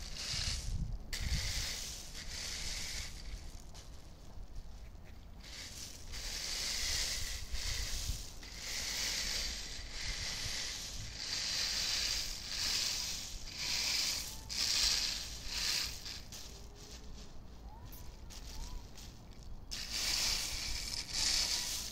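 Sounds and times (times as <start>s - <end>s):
rake stirring rattling nuts: 0.0s - 21.9s.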